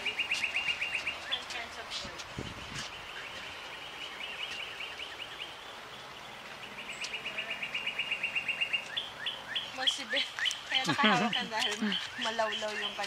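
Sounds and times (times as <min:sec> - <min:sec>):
songbird trilling: 0:00.0 - 0:01.7, 0:02.6 - 0:13.0.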